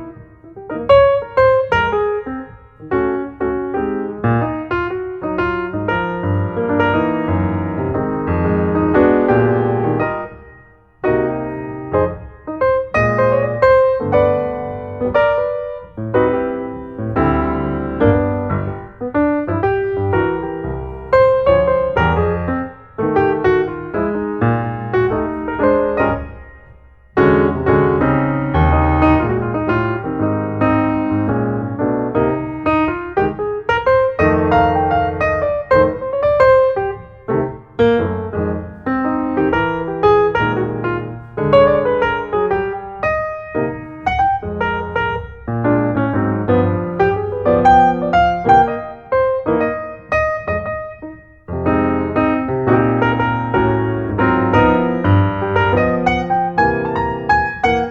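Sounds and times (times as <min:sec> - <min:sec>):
piano music: 0:00.0 - 0:57.9.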